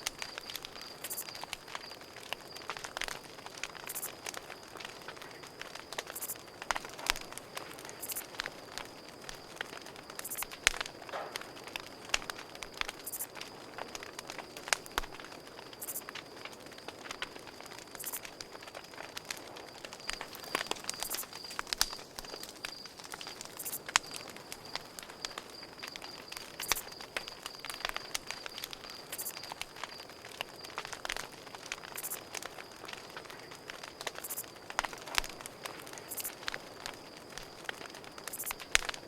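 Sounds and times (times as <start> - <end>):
campfire crackling: 0.0 - 39.0
crickets chirping: 0.0 - 39.0.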